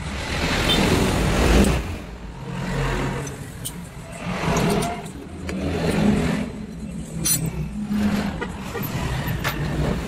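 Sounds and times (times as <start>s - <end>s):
engines running and revving: 0.0s - 10.0s.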